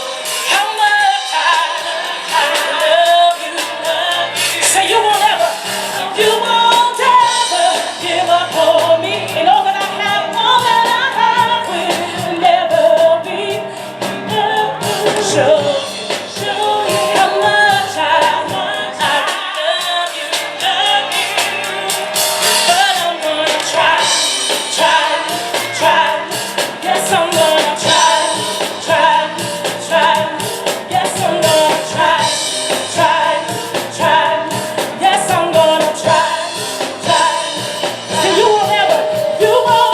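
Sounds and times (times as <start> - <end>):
drums: 0.0 - 39.9
piano: 0.0 - 39.9
women singing together: 0.0 - 39.9.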